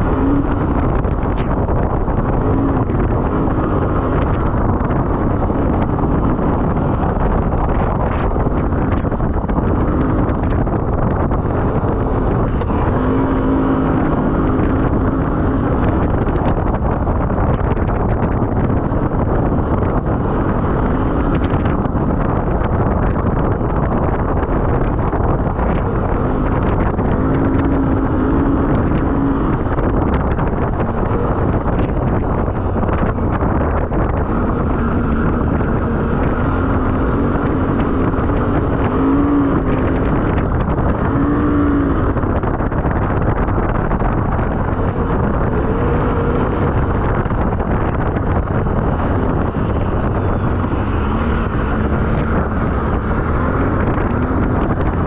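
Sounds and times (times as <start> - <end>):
off-road vehicle engine running: 0.0 - 55.0
wind buffeting microphone: 0.0 - 55.0.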